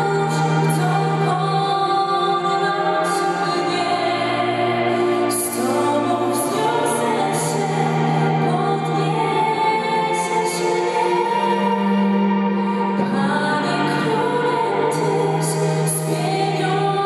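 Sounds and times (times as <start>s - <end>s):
string quartet sustained notes: 0.0s - 17.0s
woman singing slow song: 0.0s - 17.0s.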